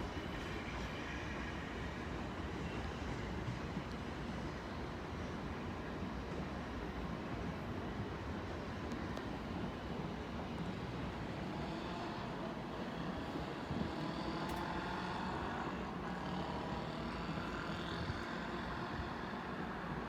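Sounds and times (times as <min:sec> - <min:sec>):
faint motor whine: 0:00.0 - 0:20.0
train rumble and rush: 0:00.0 - 0:20.0.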